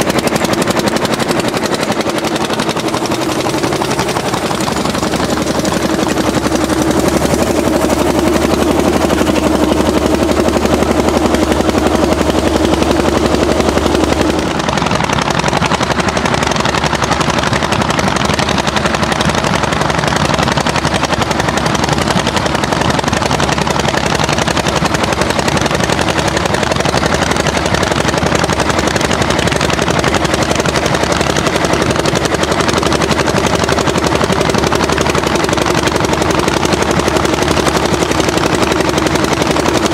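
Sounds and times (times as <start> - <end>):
tractor engine firing: 0.0 - 39.9.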